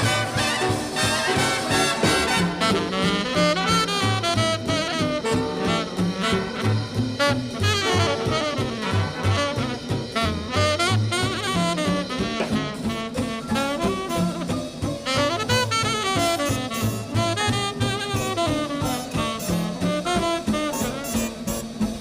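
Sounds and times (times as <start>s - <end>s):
tenor saxophone lead: 0.0s - 21.8s
swing big band music: 0.0s - 22.0s.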